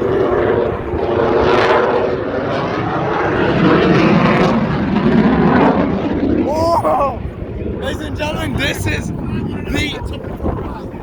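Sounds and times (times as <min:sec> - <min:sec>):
jet roaring past: 0:00.0 - 0:09.6.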